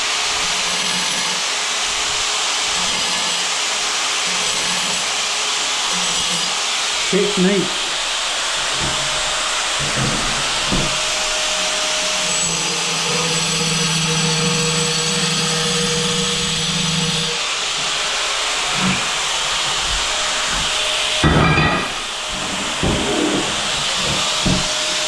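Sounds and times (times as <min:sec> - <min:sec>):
angle grinder cutting tile: 0:00.0 - 0:25.0.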